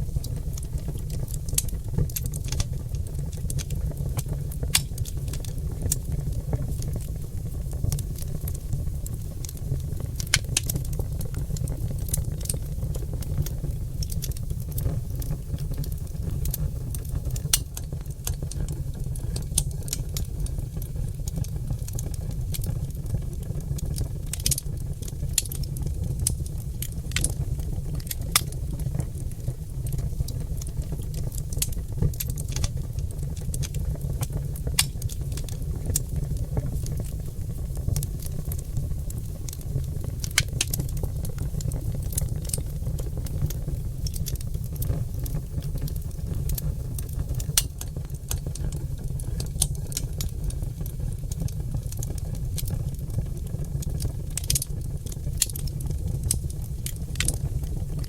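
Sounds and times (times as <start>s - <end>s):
fire low rumble: 0.0s - 58.0s
logs crackling and popping: 0.0s - 58.0s.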